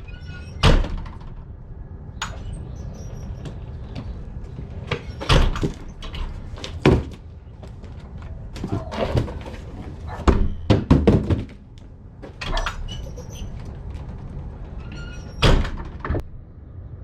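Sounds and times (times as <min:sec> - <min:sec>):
knocks and clunks: 0:00.0 - 0:01.5, 0:03.2 - 0:16.3.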